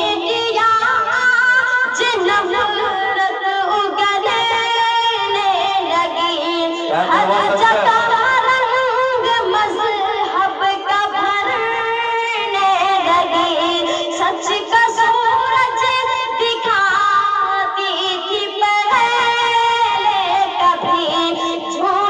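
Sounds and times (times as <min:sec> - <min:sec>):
boy singing into a microphone: 0:00.0 - 0:22.0.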